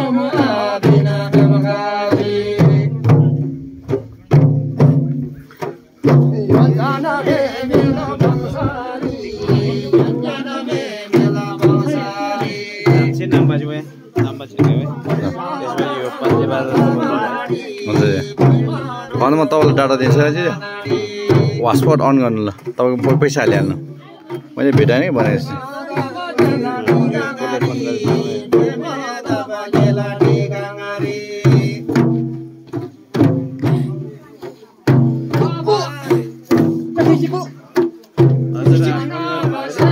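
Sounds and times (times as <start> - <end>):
group of men singing: 0.0 - 3.6, 5.5 - 34.2, 35.3 - 39.9
men's voices: 0.0 - 4.4, 5.1 - 32.9, 35.3 - 39.9
frame drums beaten: 0.0 - 39.9.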